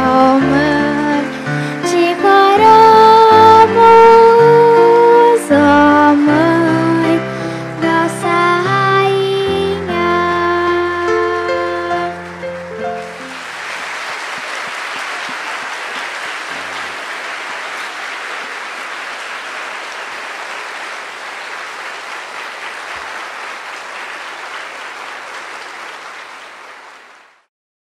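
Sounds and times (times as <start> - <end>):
congregation applauding: 0.7 - 7.6, 10.3 - 27.5.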